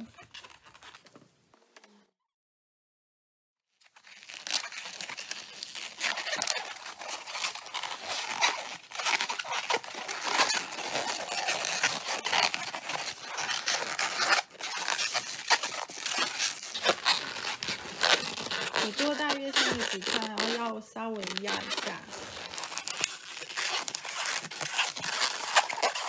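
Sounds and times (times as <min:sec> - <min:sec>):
balloon rubbing and creaking: 0:00.0 - 0:01.9, 0:03.9 - 0:26.0.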